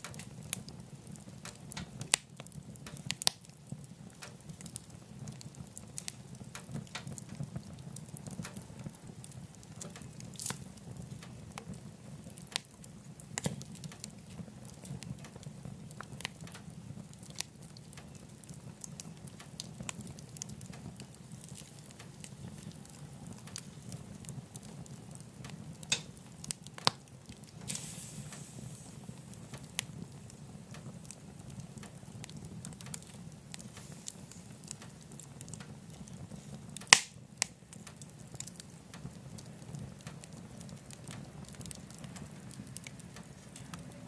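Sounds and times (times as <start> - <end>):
fire crackling and popping: 0.0 - 44.0
low rumble of fire: 0.0 - 44.0.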